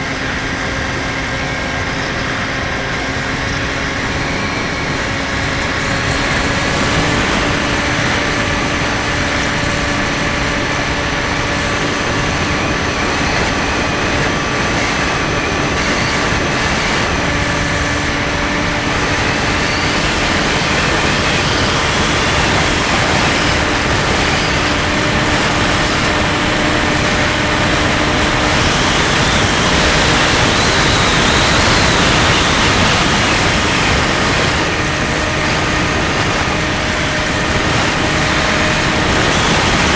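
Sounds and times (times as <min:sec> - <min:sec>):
electric motor and propeller: 0:00.0 - 0:39.9
wind noise on microphone: 0:00.0 - 0:39.9.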